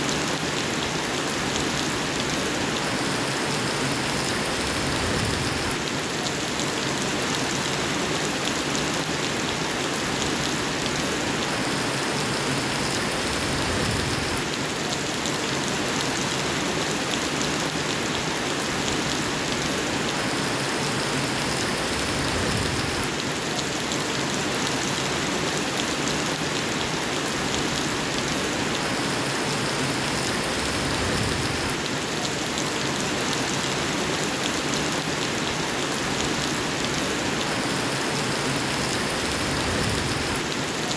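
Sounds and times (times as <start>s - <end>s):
dense rain falling: 0.0s - 40.9s.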